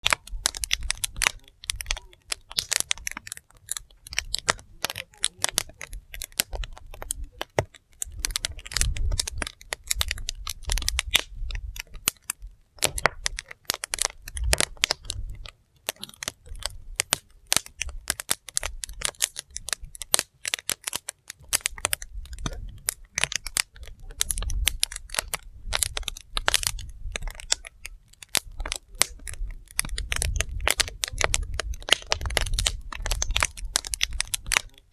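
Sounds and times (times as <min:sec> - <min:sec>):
low fire rumble: 0:00.0 - 0:34.9
wood fire crackling and popping: 0:00.0 - 0:34.9.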